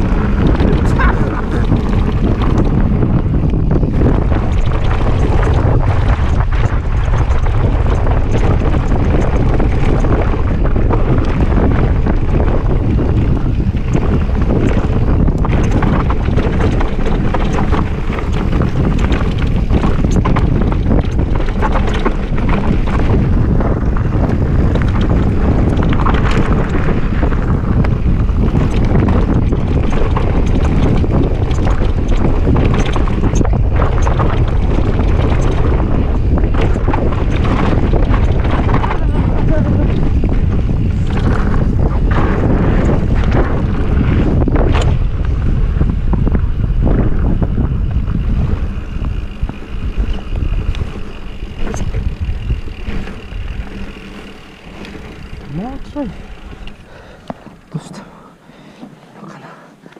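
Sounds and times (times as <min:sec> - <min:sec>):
bike knocks and rattles: 0:00.0 - 0:57.7
tyres rolling over dirt and stones: 0:00.0 - 0:57.9
wind buffeting microphone: 0:00.0 - 0:59.9.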